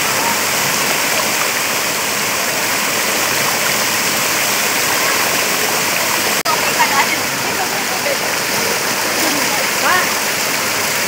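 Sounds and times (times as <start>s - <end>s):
water splashing into pool: 0.0s - 11.0s
waterfall rushing: 0.0s - 11.0s.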